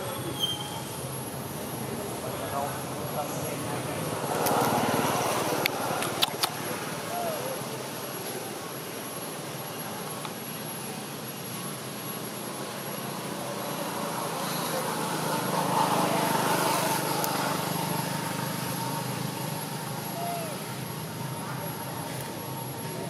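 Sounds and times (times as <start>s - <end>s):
distant engine drone: 0.0s - 23.0s.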